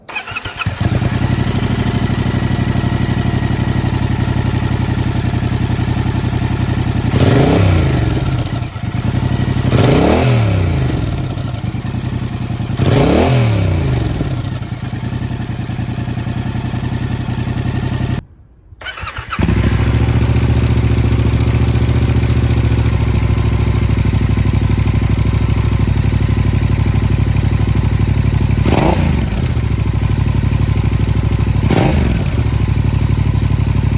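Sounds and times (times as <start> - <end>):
motorcycle engine idling and revving: 0.0 - 18.2, 18.8 - 33.9.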